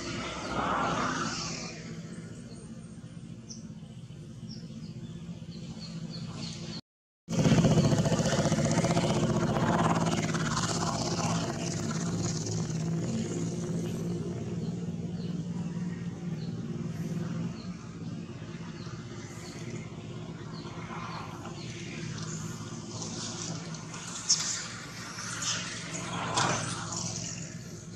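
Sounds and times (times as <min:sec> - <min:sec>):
vehicle engine running: 0:01.7 - 0:27.9.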